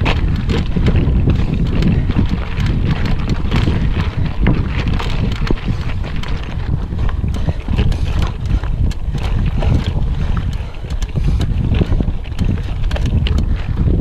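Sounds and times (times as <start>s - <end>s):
bike clicking and rattling: 0.0s - 14.0s
wind rumble on microphone: 0.0s - 14.0s.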